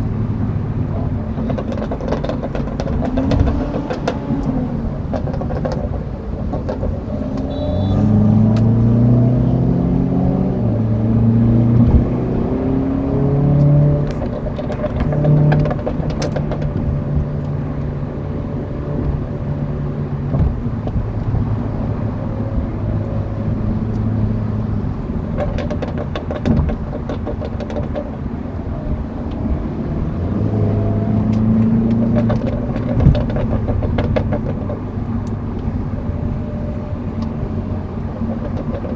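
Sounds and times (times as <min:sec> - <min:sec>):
car exhaust accelerating: 0:00.0 - 0:38.9.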